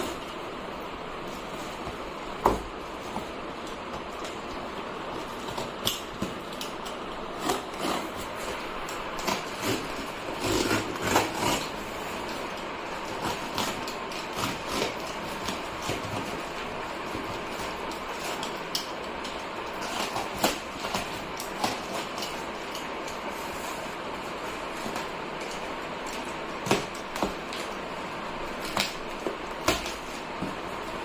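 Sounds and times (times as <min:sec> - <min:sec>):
steady background noise: 0:00.0 - 0:31.0.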